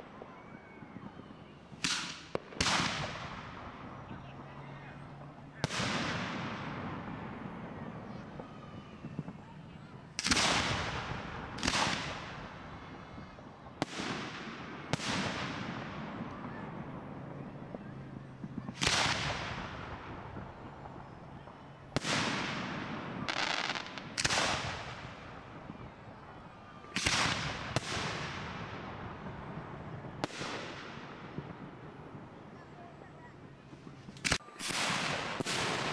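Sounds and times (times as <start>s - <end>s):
fireworks booming: 0.0s - 35.9s.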